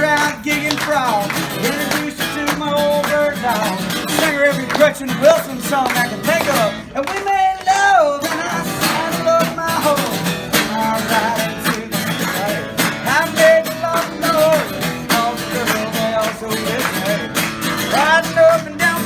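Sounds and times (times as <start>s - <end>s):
acoustic guitar strumming: 0.0s - 19.0s
man singing: 0.0s - 19.0s.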